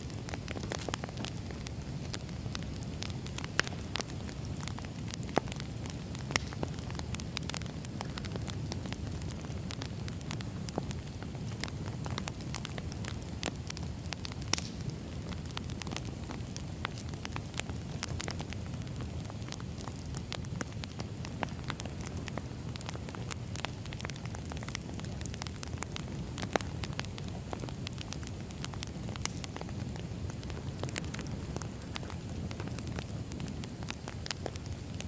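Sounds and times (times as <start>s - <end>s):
firewood crackling and popping: 0.0s - 35.0s
wood fire burning: 0.0s - 35.0s.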